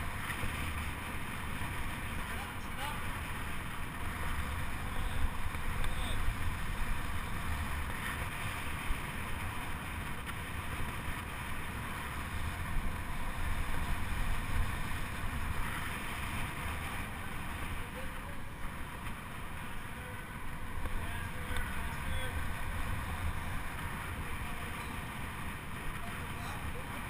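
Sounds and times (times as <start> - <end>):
bike low rumble: 0.0 - 27.0.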